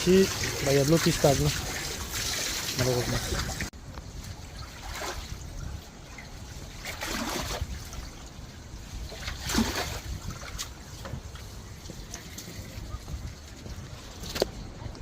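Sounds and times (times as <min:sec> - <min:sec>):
water trickling: 0:00.0 - 0:14.1
water splashes: 0:00.0 - 0:14.2.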